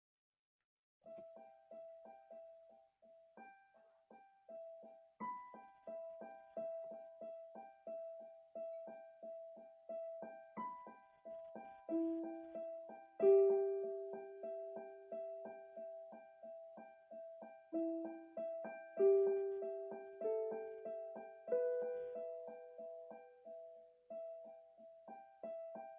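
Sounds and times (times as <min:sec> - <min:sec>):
calm piano music: 0:01.0 - 0:25.9.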